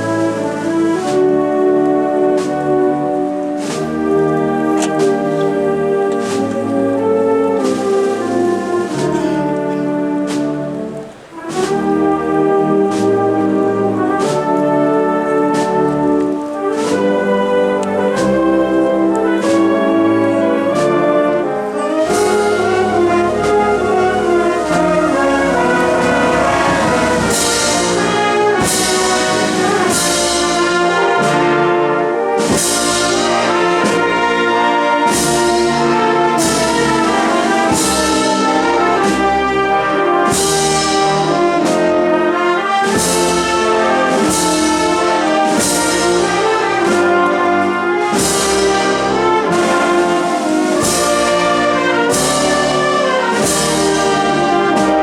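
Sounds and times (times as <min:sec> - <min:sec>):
brass sustained chords: 0:00.0 - 0:55.0
percussion steady beat: 0:00.0 - 0:55.0.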